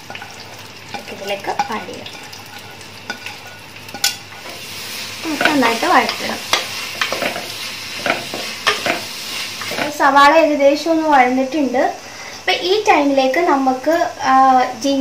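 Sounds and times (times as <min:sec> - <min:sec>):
onions sizzling in hot fat: 0:00.0 - 0:15.0.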